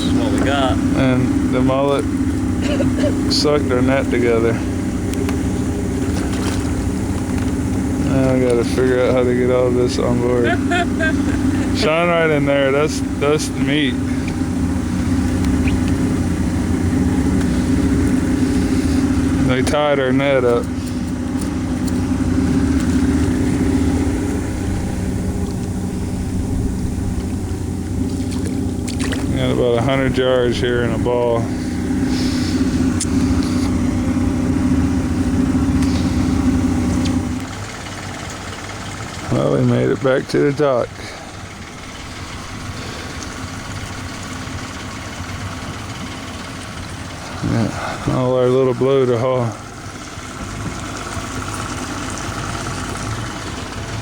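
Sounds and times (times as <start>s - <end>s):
boat motor running: 0.0s - 54.0s
engine idling: 0.0s - 54.0s.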